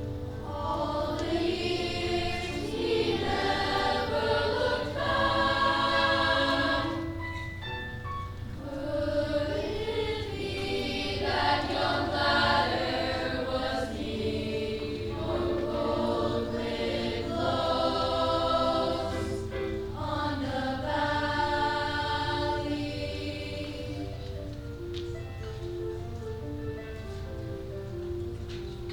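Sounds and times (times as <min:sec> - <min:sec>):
choir singing in parts: 0:00.0 - 0:24.5.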